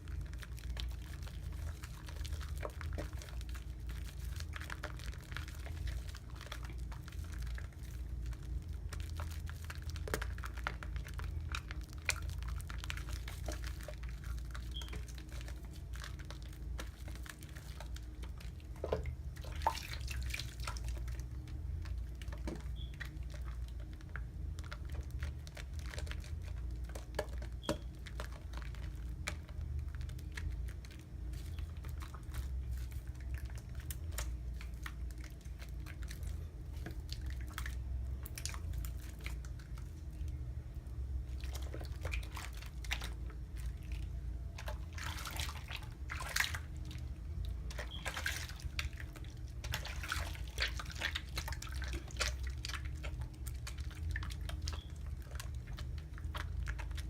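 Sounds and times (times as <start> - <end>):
low steady hum: 0.0 - 57.0
soap lather squelching: 0.0 - 57.0.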